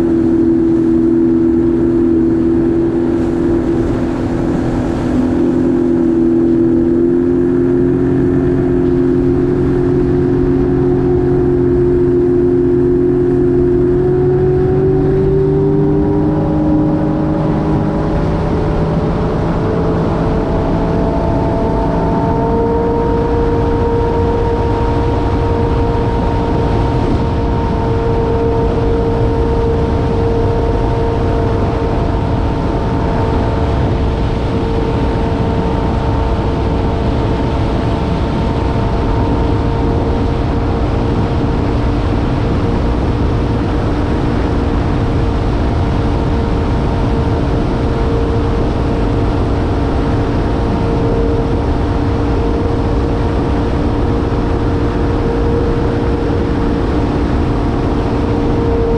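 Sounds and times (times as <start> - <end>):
jet ski engine running: 0.0 - 58.9.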